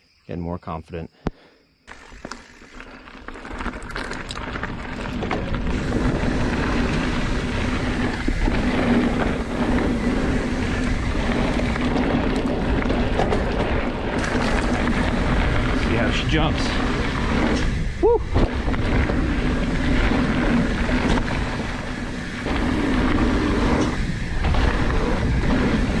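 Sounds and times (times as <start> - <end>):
bike tyres rumbling on dirt: 1.9 - 26.0
wind rushing over microphone: 3.8 - 26.0.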